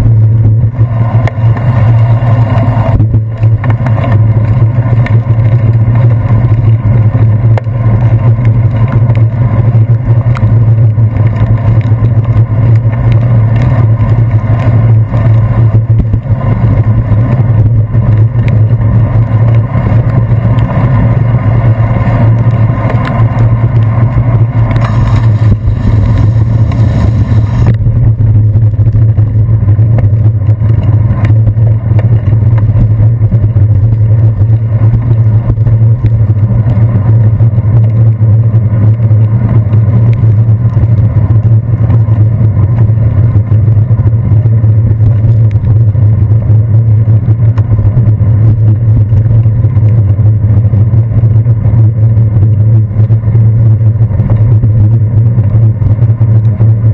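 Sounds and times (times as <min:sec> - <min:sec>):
bicycle rumbling over wet pavement: 0:00.0 - 0:56.9
traffic: 0:00.0 - 0:56.9
wind noise: 0:00.0 - 0:56.9.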